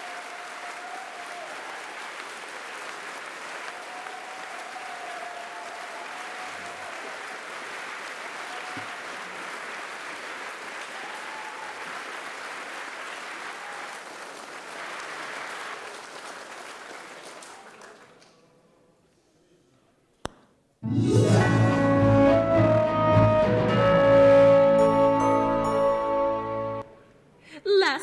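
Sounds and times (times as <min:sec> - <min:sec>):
large audience applauding: 0:00.0 - 0:18.4, 0:20.9 - 0:26.8.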